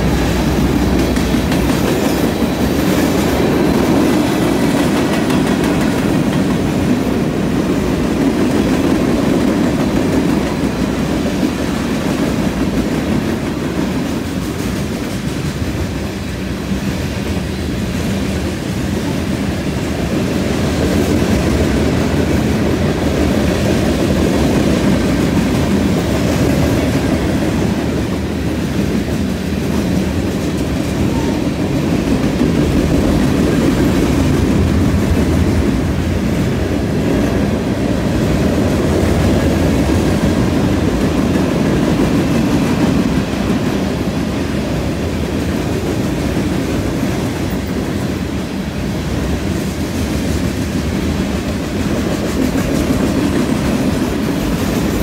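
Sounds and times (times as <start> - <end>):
clicks and clacks of train wheels: 0.0 - 55.0
freight train wheels rumbling on rails: 0.0 - 55.0.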